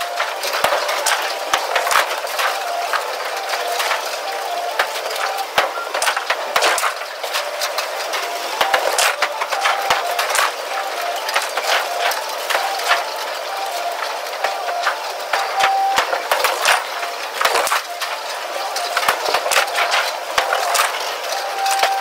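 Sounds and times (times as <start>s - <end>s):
bowling pins clattering: 0.0s - 22.0s.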